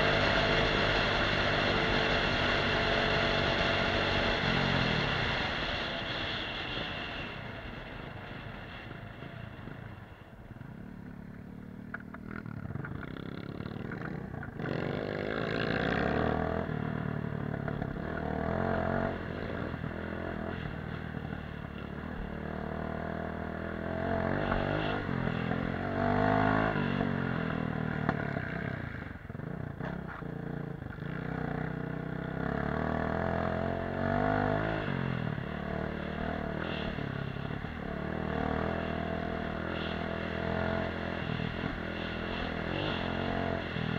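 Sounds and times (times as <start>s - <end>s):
motorcycle engine revving: 0.0s - 9.8s, 10.8s - 43.9s.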